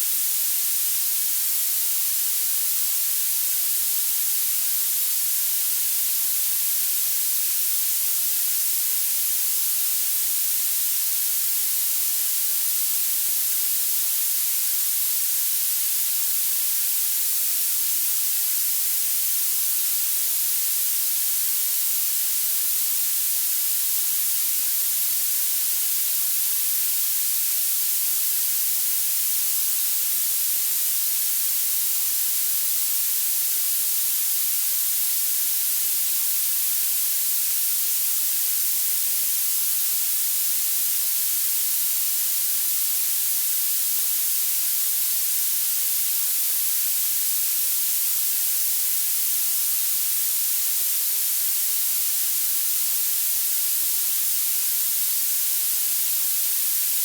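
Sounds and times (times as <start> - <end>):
high-pitched steady hiss: 0.0 - 57.0.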